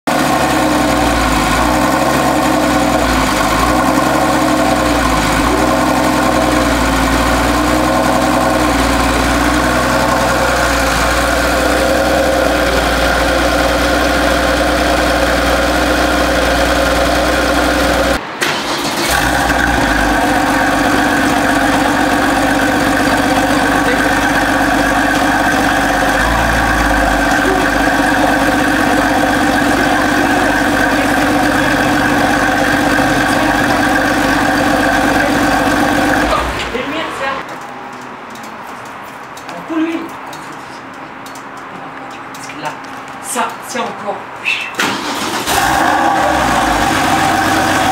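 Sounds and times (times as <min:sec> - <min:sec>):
car engine idling: 0:00.0 - 0:37.5, 0:44.8 - 0:47.9.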